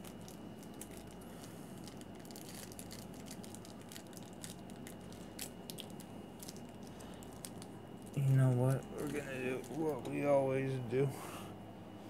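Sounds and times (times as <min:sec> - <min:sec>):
foil wrapper tearing and crinkling: 0:00.0 - 0:10.1.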